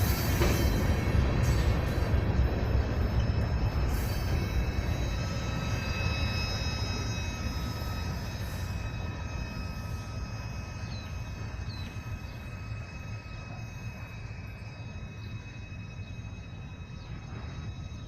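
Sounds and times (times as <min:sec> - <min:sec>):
freight train rumbling on rails: 0:00.0 - 0:18.0
high-pitched ringing tones: 0:00.0 - 0:18.0.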